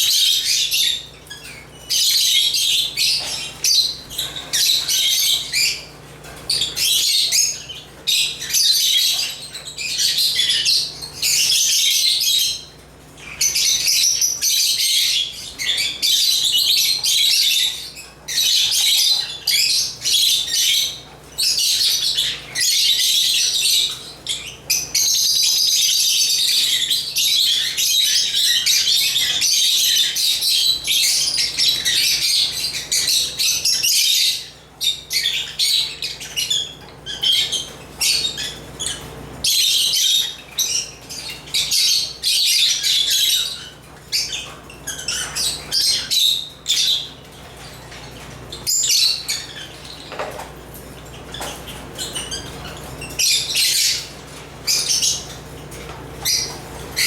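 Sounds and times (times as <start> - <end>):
lovebirds chirping and chattering: 0.0 - 57.0.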